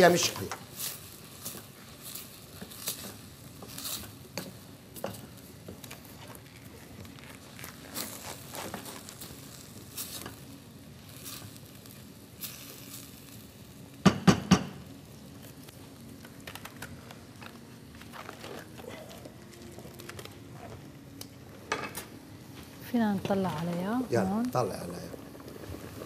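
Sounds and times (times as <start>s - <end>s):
onions sizzling in a pot: 0.0s - 26.0s.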